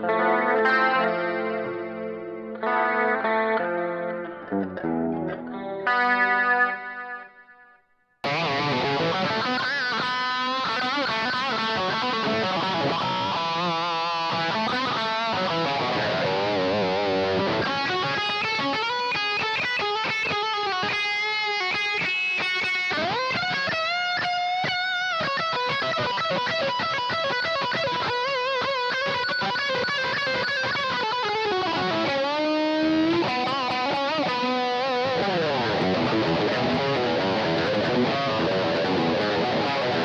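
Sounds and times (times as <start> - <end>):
electric guitar lead notes: 0.0 - 40.0.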